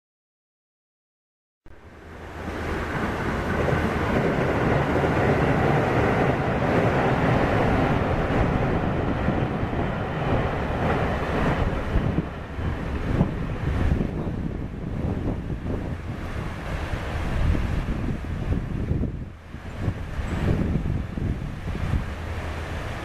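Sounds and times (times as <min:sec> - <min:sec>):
water rushing over a weir: 0:01.7 - 0:23.0.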